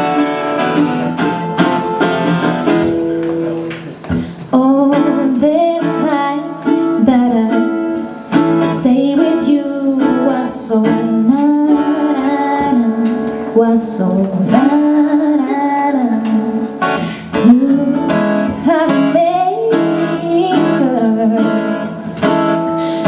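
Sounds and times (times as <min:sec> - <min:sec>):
acoustic guitar strumming: 0:00.0 - 0:23.0
person singing: 0:04.3 - 0:23.0.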